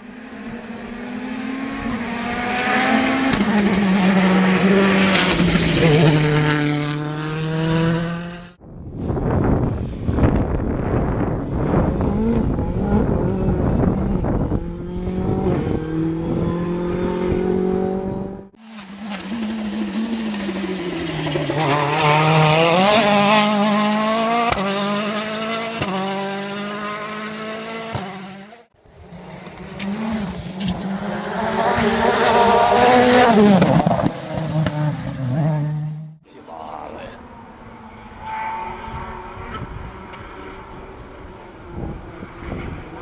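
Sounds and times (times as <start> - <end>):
rally car engines revving: 0.0 - 8.6, 9.7 - 43.0.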